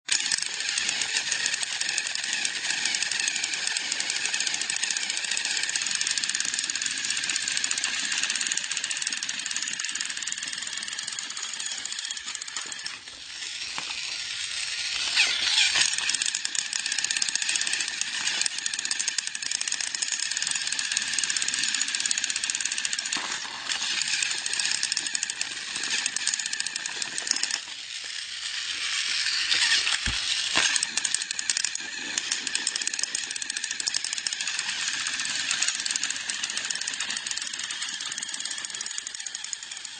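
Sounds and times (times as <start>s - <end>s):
toy train motors buzzing: 0.0s - 39.9s
plastic wheels clattering on track: 0.1s - 39.9s.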